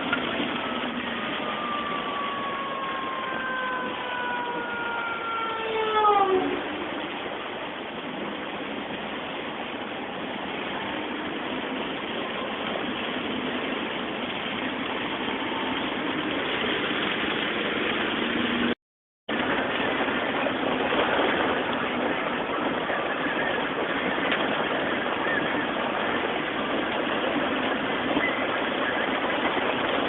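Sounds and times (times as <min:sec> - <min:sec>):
heavy rain on a car: 0:00.0 - 0:30.0
tyres on a flooded road: 0:00.0 - 0:30.0.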